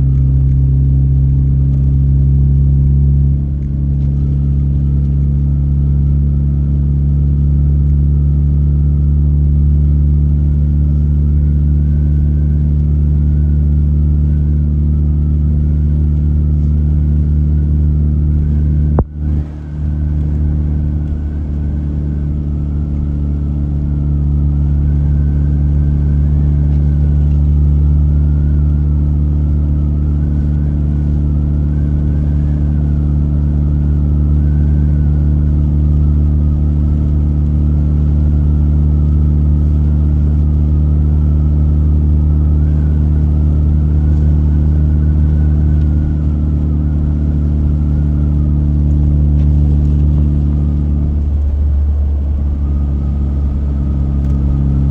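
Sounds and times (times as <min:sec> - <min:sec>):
road noise: 0:00.0 - 0:08.0, 0:09.8 - 0:54.9
car engine drone: 0:00.0 - 0:54.9
faint wavering whine: 0:00.0 - 0:54.9.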